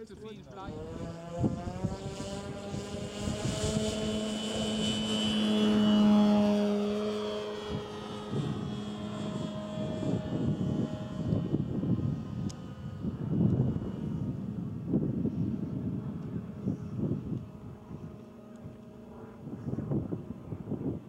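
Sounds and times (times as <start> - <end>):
model plane engine droning: 0.0 - 21.0.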